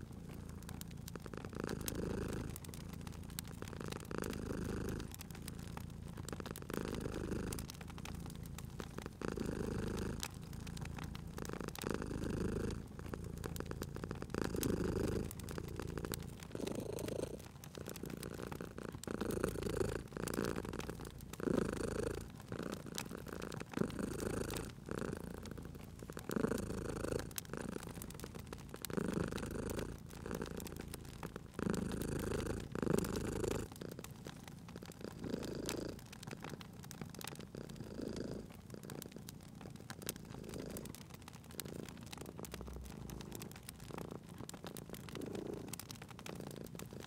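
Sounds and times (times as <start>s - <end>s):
cat purring: 0.0s - 47.0s
fireplace fire crackling: 0.0s - 47.0s.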